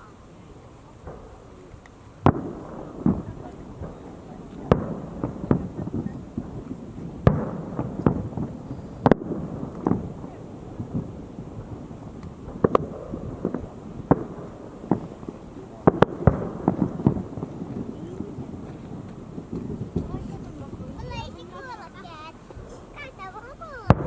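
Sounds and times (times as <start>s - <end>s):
fireworks bursting with bangs: 0.0s - 24.0s
rumbling echoes: 2.3s - 24.0s.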